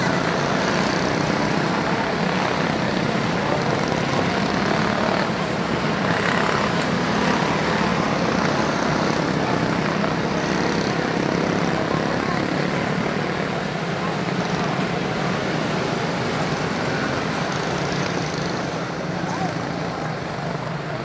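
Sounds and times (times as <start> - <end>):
small race car engines buzzing: 0.0 - 21.0.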